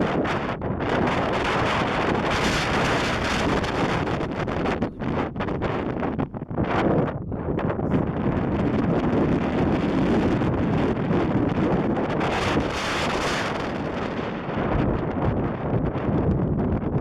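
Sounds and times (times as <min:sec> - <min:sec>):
storm wind buffeting microphone: 0:00.0 - 0:17.0.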